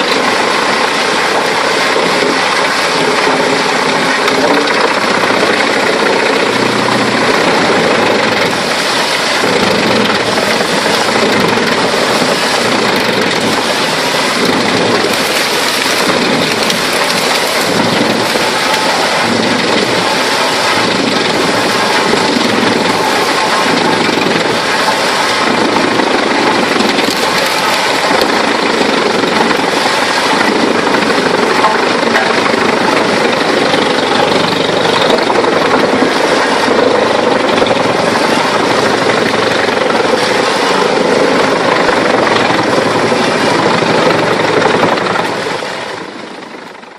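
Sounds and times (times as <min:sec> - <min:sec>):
wood chipper diesel engine running: 0:00.0 - 0:46.9.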